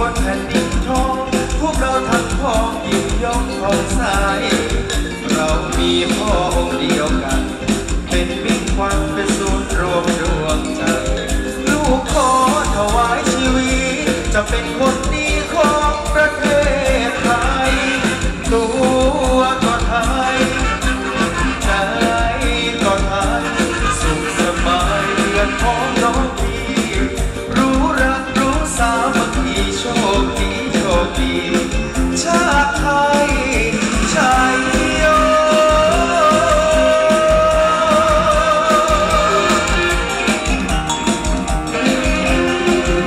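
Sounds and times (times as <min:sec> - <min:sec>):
live band music: 0:00.0 - 0:43.0
person singing with vibrato: 0:00.0 - 0:43.0.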